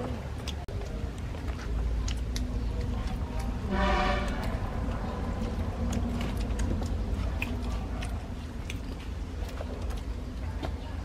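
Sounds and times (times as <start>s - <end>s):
children chewing: 0.0s - 11.0s
mouth clicks and smacks: 0.0s - 11.0s.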